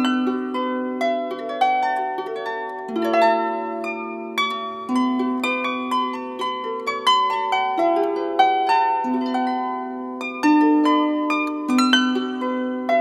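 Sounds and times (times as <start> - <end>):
plucked-string melody: 0.0 - 13.0.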